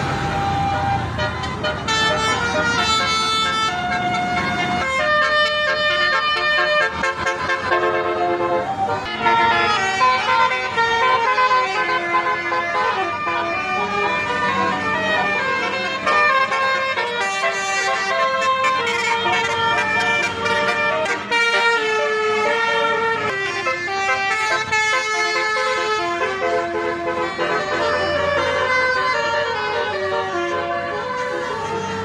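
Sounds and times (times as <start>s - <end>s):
musical bus horns playing tunes: 0.0s - 32.0s.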